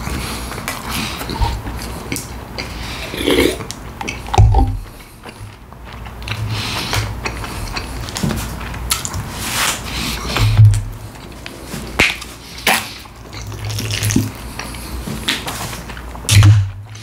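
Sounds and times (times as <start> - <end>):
chewing and biting mouth sounds: 0.0 - 17.0.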